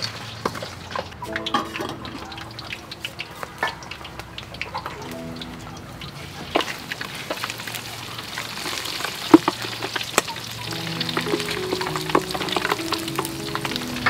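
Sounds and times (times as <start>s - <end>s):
pork skin sizzling in hot oil: 2.6s - 14.0s.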